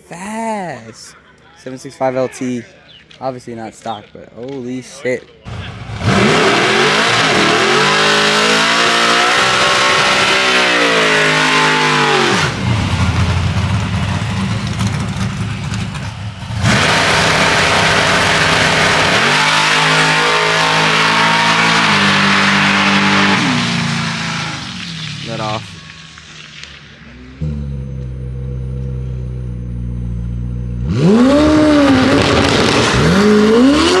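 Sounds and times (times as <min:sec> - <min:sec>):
car engines at full throttle: 0:05.5 - 0:34.0.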